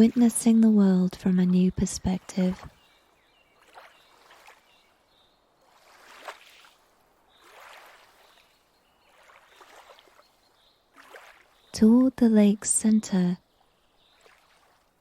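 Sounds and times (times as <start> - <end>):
water lapping gently: 0.0 - 15.0.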